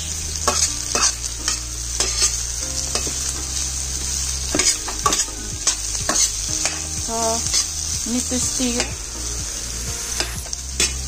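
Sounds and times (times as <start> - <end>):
spatula scraping wok: 0.0 - 11.0
vegetables sizzling in oil: 0.0 - 11.0.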